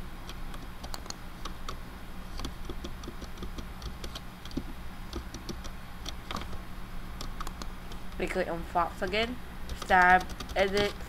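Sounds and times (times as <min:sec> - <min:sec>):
steady low hum: 0:00.0 - 0:11.0
keyboard keys clicking: 0:00.2 - 0:06.6, 0:07.2 - 0:08.1, 0:09.0 - 0:11.0.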